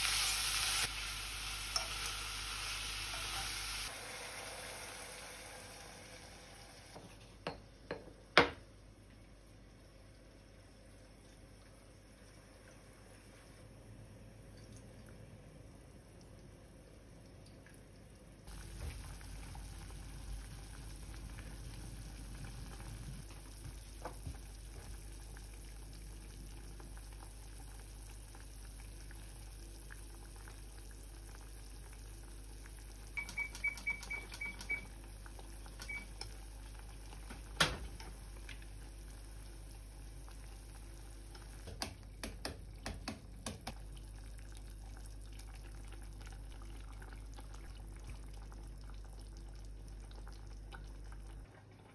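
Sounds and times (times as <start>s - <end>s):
stew bubbling in a saucepan: 0.0s - 51.9s.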